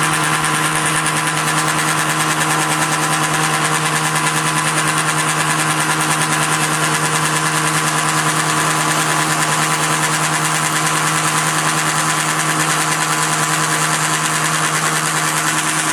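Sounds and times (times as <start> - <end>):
milling machine motor and belt hum: 0.0 - 15.9.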